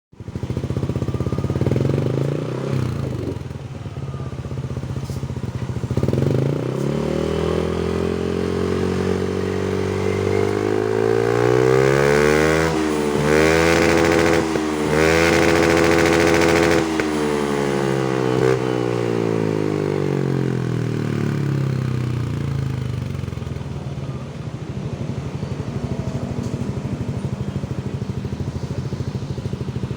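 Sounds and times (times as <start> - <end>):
scooter engine revving: 0.2 - 29.9.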